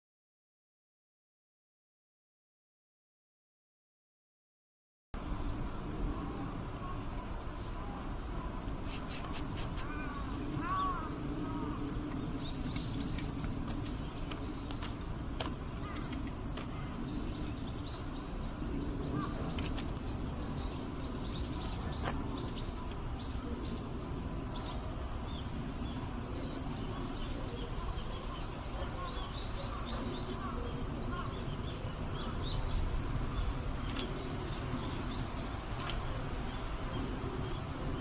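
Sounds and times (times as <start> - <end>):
low background noise: 5.2 - 38.0
small birds chirping: 5.2 - 38.0.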